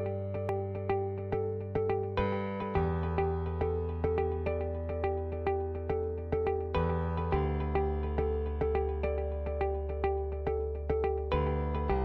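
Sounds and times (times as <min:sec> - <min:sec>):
held low bass note: 0:00.0 - 0:12.0.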